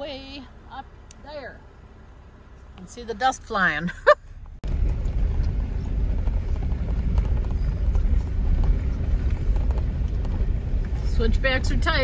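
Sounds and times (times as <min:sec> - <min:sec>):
tyres on gravel road: 0:00.0 - 0:12.0
vehicle engine rumble: 0:00.0 - 0:12.0.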